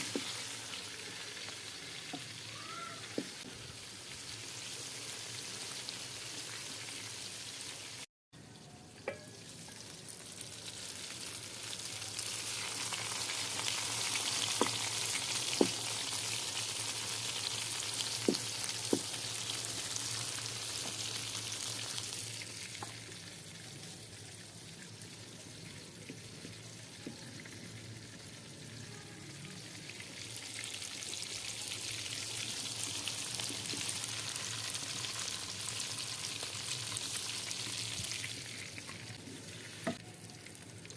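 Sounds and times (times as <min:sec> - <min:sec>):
food sizzling in hot oil: 0:00.0 - 0:08.1, 0:09.0 - 0:28.6, 0:29.4 - 0:40.9.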